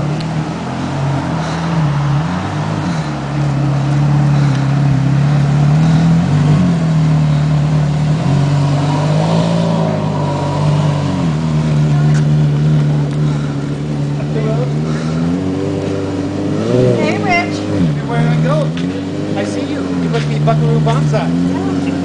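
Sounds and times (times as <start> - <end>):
sports car engine driving: 0.0 - 22.0.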